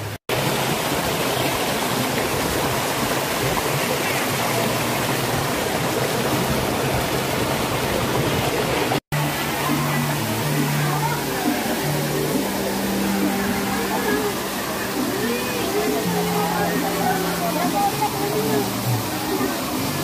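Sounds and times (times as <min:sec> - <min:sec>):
stream rushing over boulders: 0:00.0 - 0:20.0.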